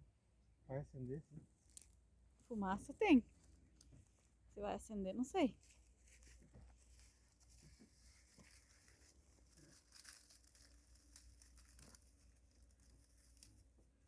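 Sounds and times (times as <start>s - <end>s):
dry kindling crackling: 1.5s - 14.0s.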